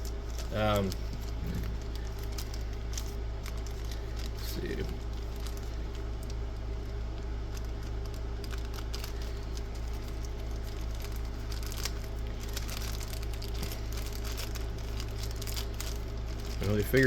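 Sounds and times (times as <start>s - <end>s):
packaging tearing: 0.0s - 6.4s, 7.4s - 17.0s
low electrical hum: 0.0s - 17.0s
packaging crinkling and rustling: 0.0s - 17.0s.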